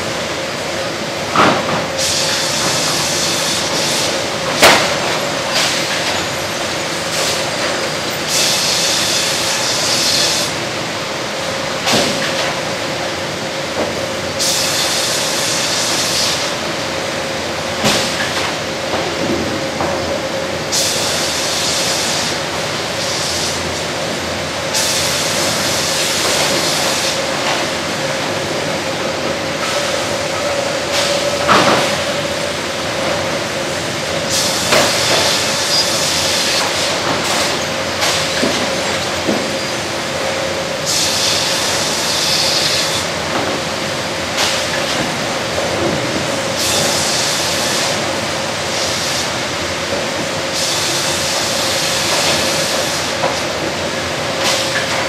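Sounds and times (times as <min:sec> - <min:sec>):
sawmill machine noise: 0:00.0 - 0:55.0.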